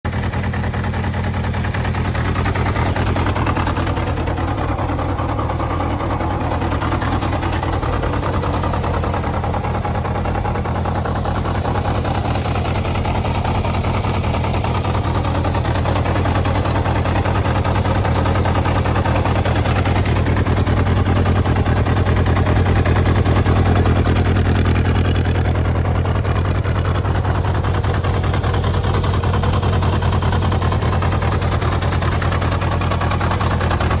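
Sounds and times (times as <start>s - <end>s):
motorcycle engine idling: 0.1s - 34.0s.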